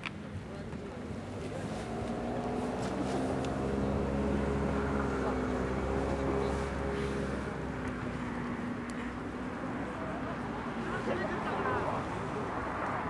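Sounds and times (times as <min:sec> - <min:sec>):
engine drone: 0:01.2 - 0:12.4.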